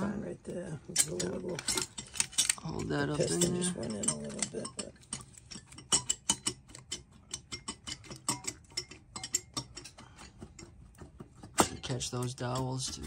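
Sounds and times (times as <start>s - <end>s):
metallic clicks and clinks: 0.8s - 13.0s.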